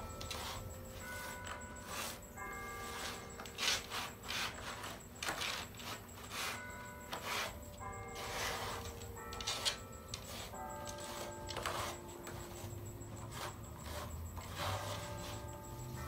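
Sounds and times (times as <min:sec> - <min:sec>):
background music of held notes: 0:00.0 - 0:16.0.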